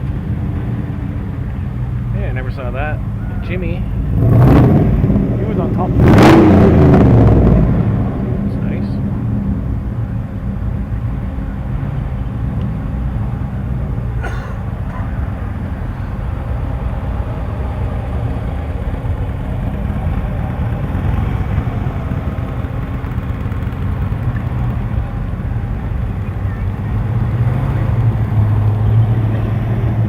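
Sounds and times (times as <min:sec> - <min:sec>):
car engines rumbling: 0:00.0 - 0:30.0.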